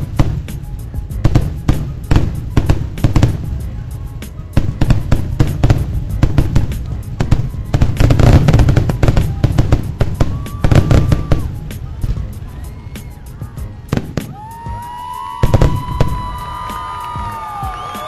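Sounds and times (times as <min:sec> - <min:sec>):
fireworks bursting and cracking: 0:00.0 - 0:18.0.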